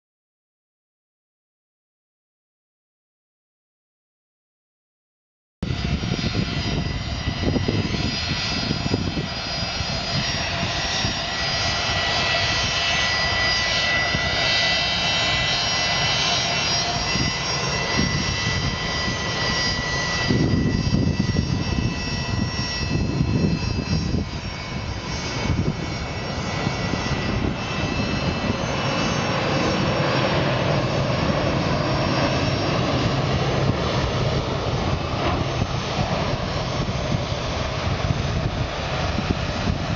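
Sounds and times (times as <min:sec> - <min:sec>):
jet engine rumble: 0:05.6 - 0:39.9
jet engine whine: 0:05.6 - 0:39.9.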